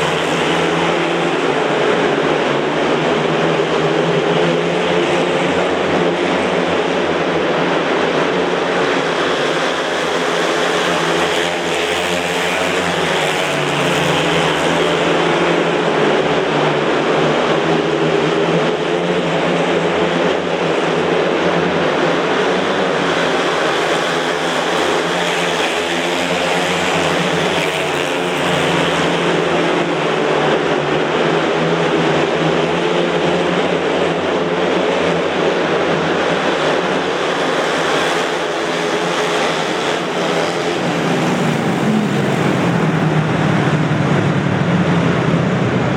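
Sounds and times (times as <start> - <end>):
motorcycles racing: 0.0 - 45.9.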